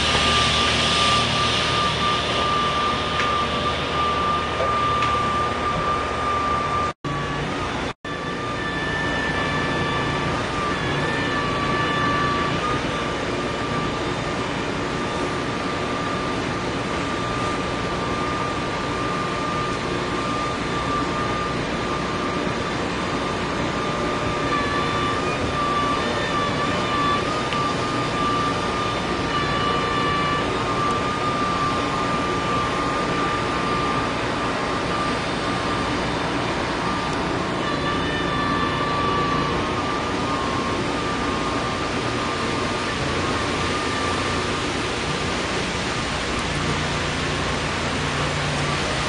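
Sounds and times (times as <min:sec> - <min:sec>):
diesel truck engines running: 0:00.0 - 0:49.0
high wavering engine whine: 0:00.0 - 0:49.0.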